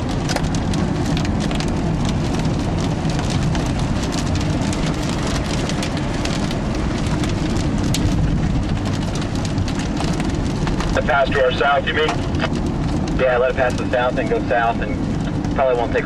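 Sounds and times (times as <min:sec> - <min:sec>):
rain drumming on car roof: 0:00.0 - 0:16.0
road and engine rumble: 0:00.0 - 0:16.0.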